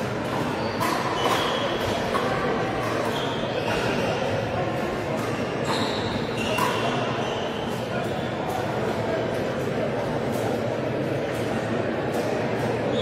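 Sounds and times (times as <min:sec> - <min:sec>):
murmur of voices in echoing hall: 0:00.0 - 0:13.0.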